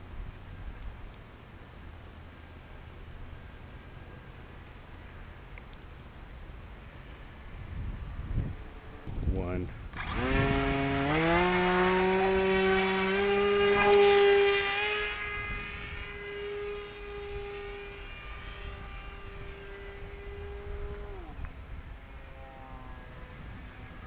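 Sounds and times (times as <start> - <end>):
model aircraft propeller buzzing: 0.0 - 24.0.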